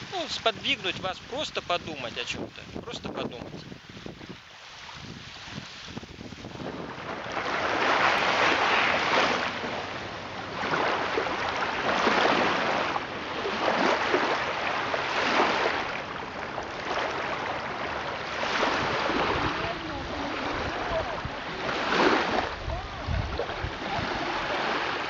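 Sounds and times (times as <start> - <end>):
small waves washing onto sand: 0.0 - 25.0.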